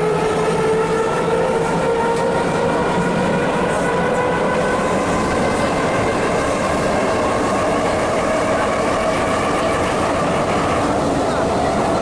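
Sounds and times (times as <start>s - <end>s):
metro train wheels rumbling: 0.0s - 12.0s
train whine rising in pitch: 0.0s - 12.0s.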